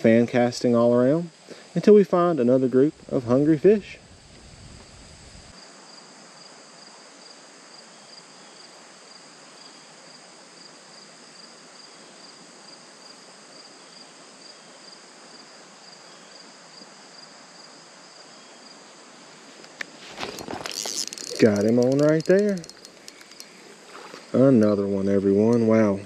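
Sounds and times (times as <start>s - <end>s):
insects chirping: 0.0s - 26.0s
light hiss: 0.0s - 26.0s.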